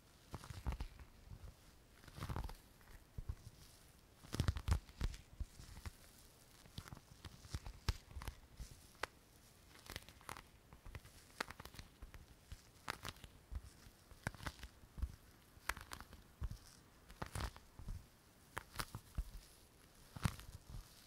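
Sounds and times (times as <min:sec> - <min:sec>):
small objects tapping and crinkling: 0:00.2 - 0:21.0.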